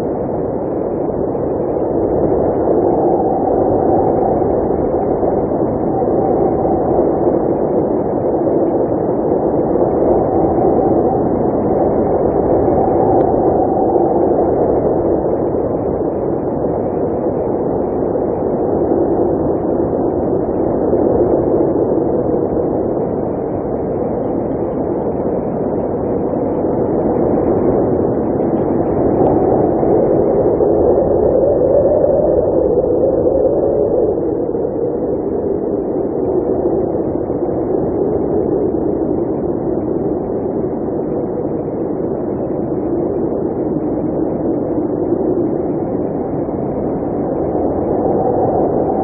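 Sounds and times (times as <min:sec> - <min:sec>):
blizzard wind blowing: 0:00.0 - 0:49.0.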